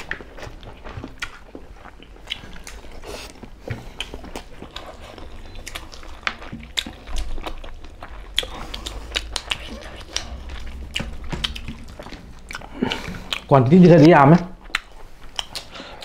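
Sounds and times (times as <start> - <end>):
chewing and mouth noises: 0.0 - 16.0.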